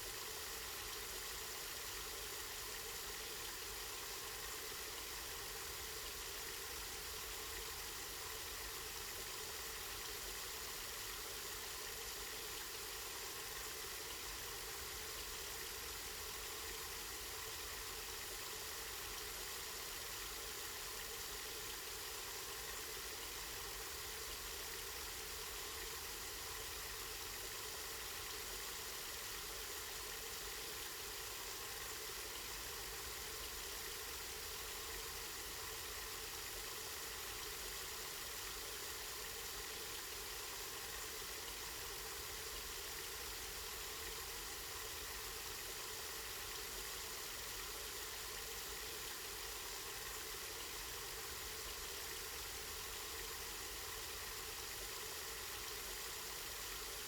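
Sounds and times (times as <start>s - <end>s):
spring water flowing: 0.0s - 57.0s.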